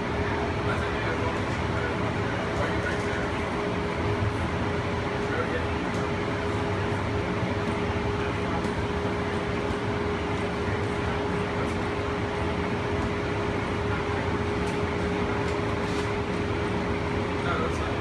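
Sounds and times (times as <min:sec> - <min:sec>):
train car running rumble: 0:00.0 - 0:18.0.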